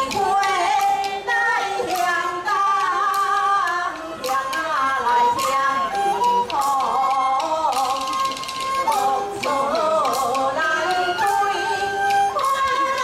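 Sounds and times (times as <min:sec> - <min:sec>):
instrumental accompaniment: 0:00.0 - 0:13.0.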